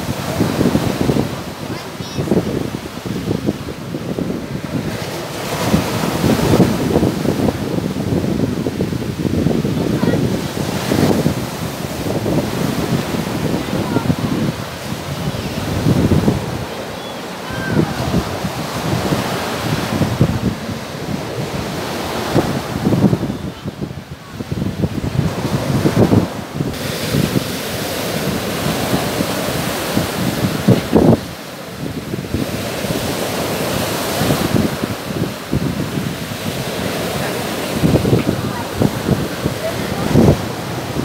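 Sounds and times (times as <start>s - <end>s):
surf washing on pebbles: 0.0s - 41.0s
wind buffeting microphone: 0.0s - 41.0s.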